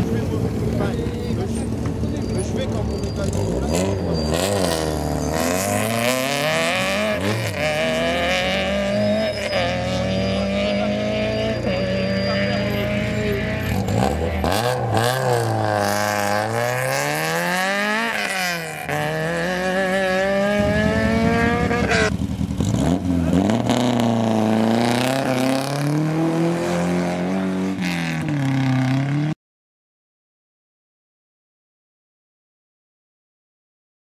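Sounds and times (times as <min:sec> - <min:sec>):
car engine pulling away: 0:00.0 - 0:29.3
rally car engines revving: 0:00.0 - 0:29.4.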